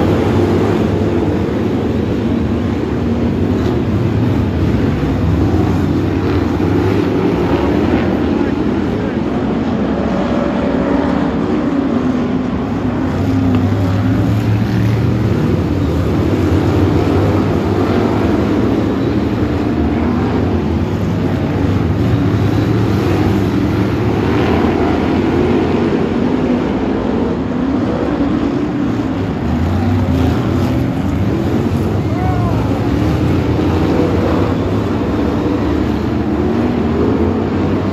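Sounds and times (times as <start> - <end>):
stock car engines racing: 0.0 - 37.9.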